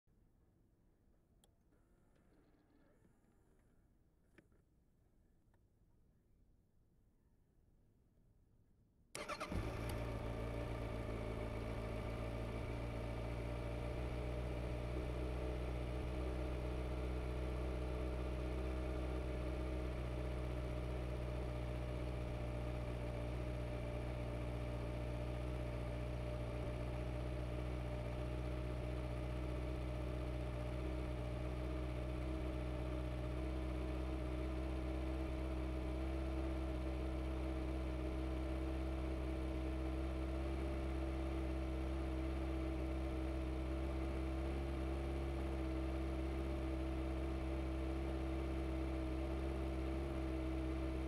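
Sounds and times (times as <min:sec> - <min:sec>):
motorcycle engine starting and idling: 0:09.2 - 0:51.0.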